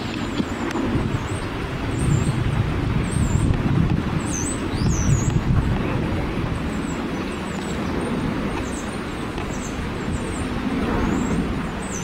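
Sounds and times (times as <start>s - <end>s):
outdoor rushing noise: 0.0s - 12.0s.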